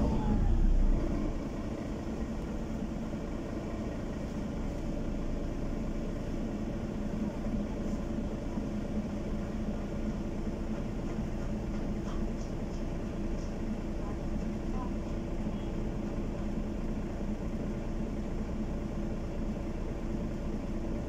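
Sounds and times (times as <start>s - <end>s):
bus engine and rolling hum: 0.0s - 21.0s.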